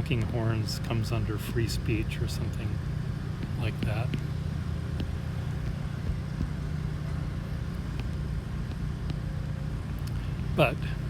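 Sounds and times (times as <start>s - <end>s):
low rumble of city traffic: 0.0s - 11.0s.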